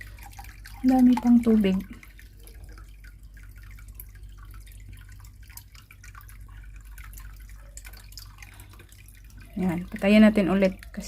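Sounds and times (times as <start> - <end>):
small water splashes: 0.0 - 11.0
water trickling into plastic basin: 0.0 - 11.0.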